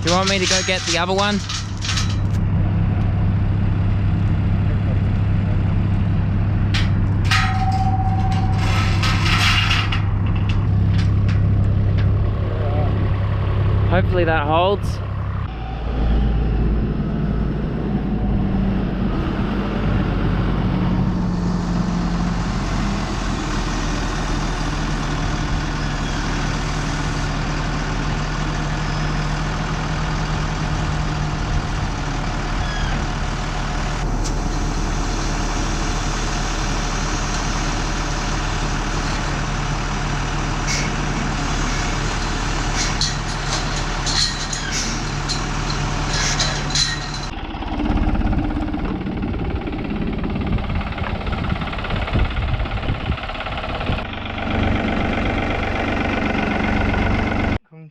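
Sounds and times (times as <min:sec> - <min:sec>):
tractor engine running: 0:00.0 - 0:57.7.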